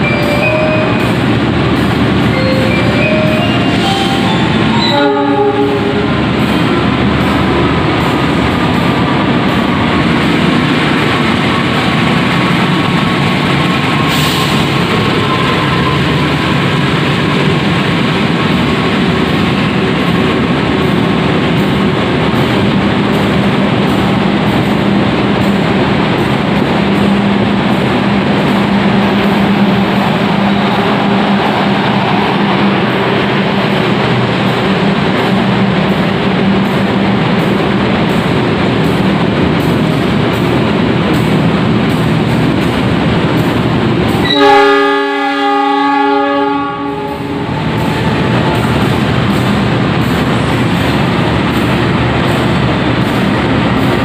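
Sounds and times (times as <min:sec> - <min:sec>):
train coaches rumbling on rails: 0:00.0 - 0:54.0.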